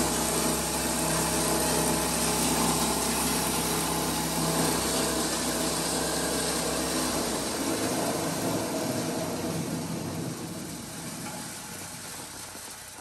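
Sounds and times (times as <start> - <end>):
plastic granulator running: 0.0 - 13.0.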